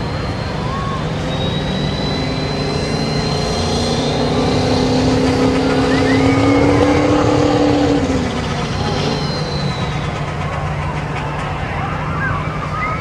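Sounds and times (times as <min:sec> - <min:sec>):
pickup engine at high revs: 0:00.0 - 0:13.0
thin high whistle: 0:00.0 - 0:13.0.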